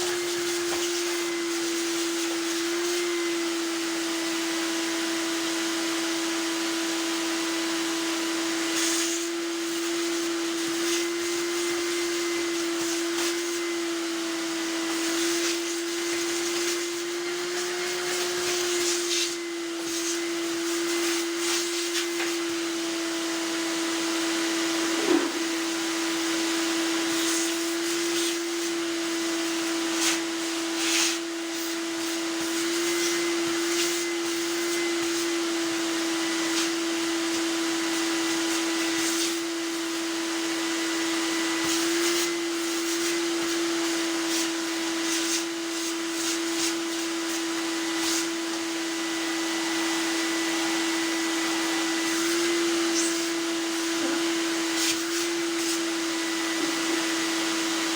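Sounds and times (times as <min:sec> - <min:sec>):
tumble dryer running: 0:00.0 - 0:08.6, 0:09.2 - 0:57.9.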